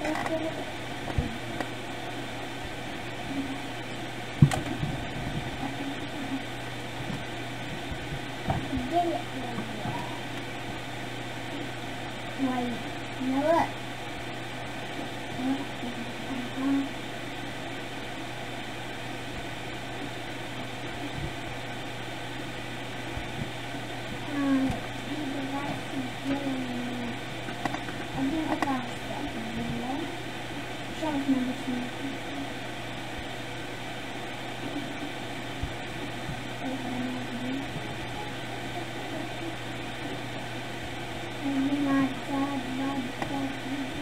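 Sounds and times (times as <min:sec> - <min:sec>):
hiss and low hum: 0:00.0 - 0:44.0.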